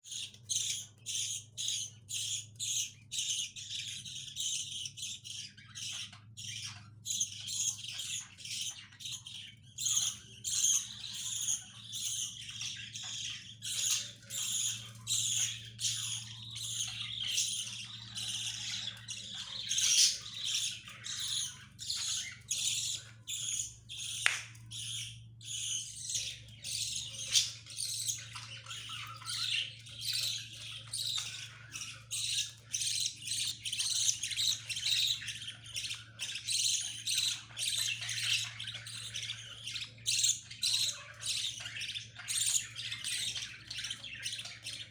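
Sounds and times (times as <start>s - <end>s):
parrots squawking and chirping: 0.1s - 44.9s.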